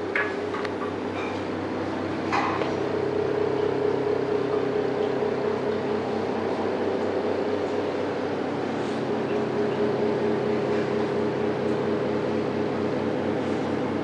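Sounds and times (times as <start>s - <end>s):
fridge compressors humming: 0.0s - 14.0s.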